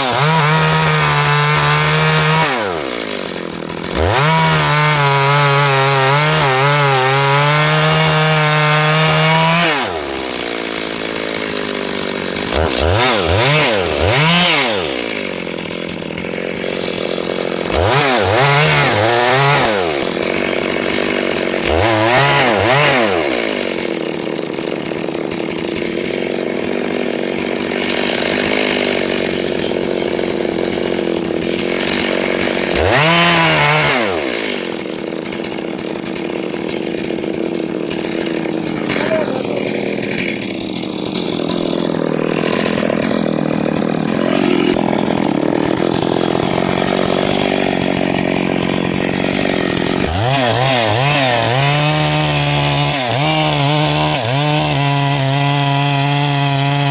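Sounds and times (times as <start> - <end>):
chainsaw revving and idling: 0.0 - 56.9.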